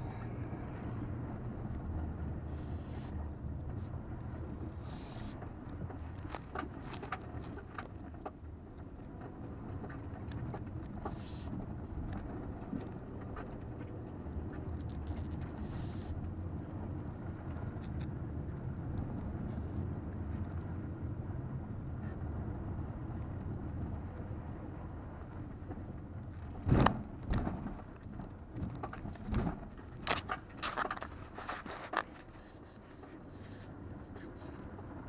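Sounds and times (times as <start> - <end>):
engine and tyres rumbling: 0.0 - 35.0.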